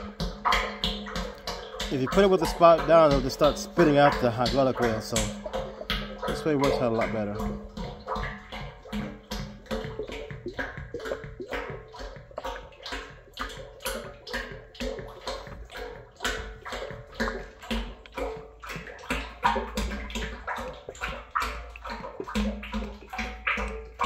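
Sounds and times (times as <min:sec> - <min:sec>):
oil glugging out of a pail: 0:00.0 - 0:24.0.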